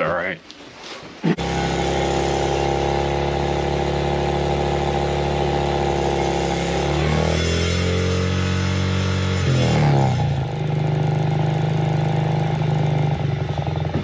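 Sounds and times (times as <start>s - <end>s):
dirt bike engine idling: 1.4s - 14.0s.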